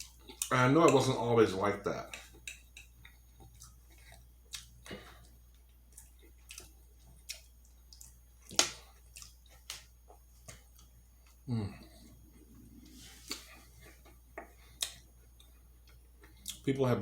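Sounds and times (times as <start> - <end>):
chewing with mouth clicks: 0.0 - 1.2, 2.0 - 16.7.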